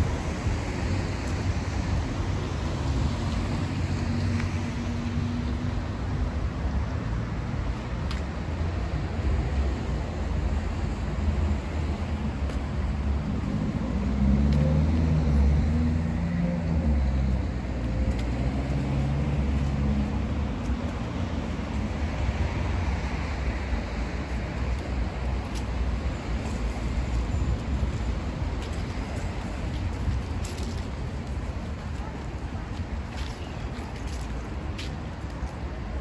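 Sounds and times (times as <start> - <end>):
city road noise rumble: 0.0 - 36.0.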